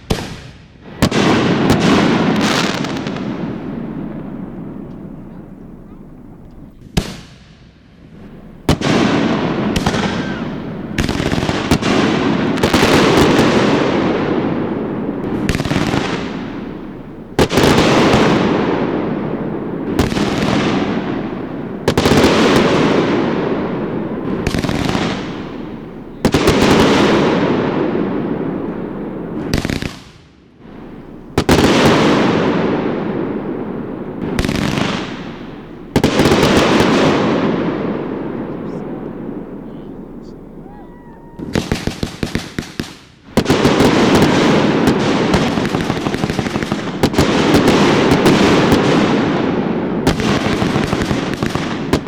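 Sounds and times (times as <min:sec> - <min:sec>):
fireworks bursting with rumble: 0:00.0 - 0:52.0.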